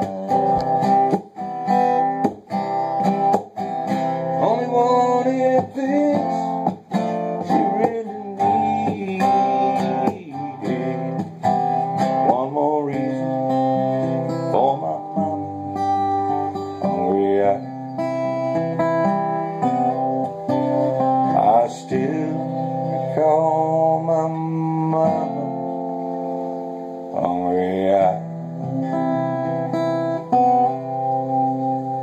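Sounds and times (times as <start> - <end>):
acoustic guitar strummed: 0.0 - 32.0.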